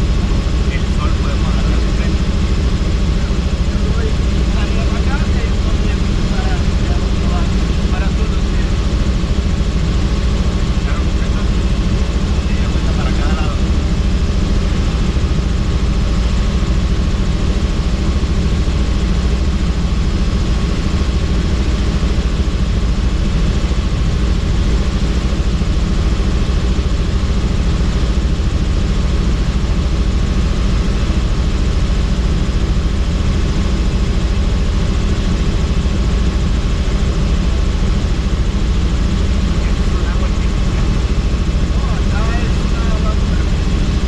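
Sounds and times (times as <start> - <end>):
helicopter rotor and engine drone: 0.0 - 44.0.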